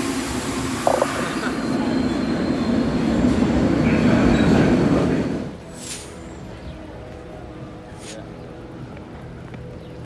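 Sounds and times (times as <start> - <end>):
subway train rumble: 0.0 - 10.0.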